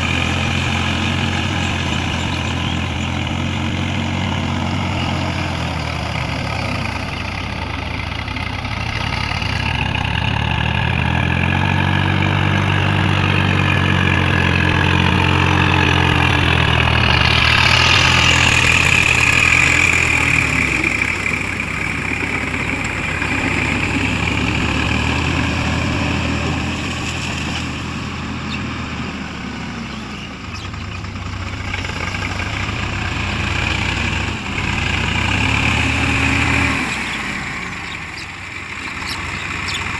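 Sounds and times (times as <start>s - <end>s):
tractor diesel engine labouring: 0.0s - 39.9s.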